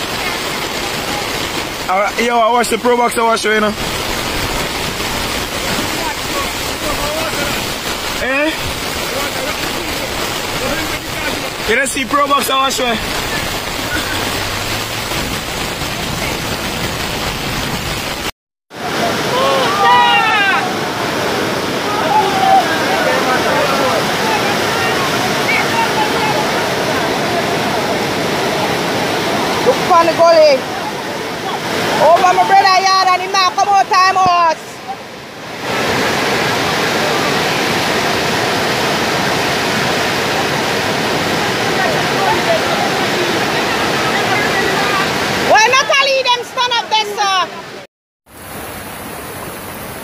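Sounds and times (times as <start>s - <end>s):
floodwater rushing: 0.0s - 50.0s
heavy rain hissing: 0.0s - 50.0s.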